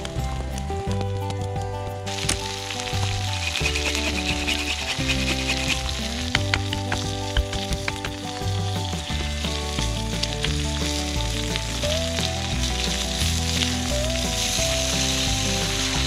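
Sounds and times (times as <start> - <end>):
background music with bass: 0.0 - 16.0
food sizzling in a pan: 2.1 - 16.0.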